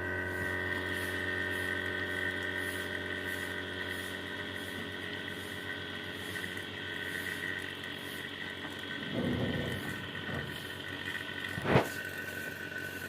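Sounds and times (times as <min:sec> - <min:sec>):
machine hum: 0:00.0 - 0:13.0
faint regular pulsing: 0:00.2 - 0:13.0.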